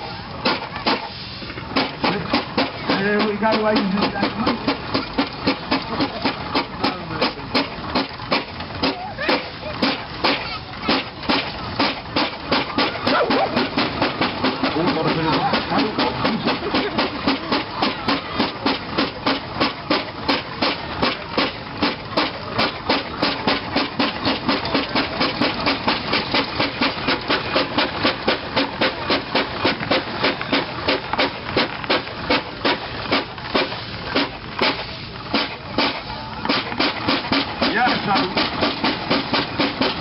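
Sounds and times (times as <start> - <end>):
steam engine exhaust chuffing: 0.0 - 40.0.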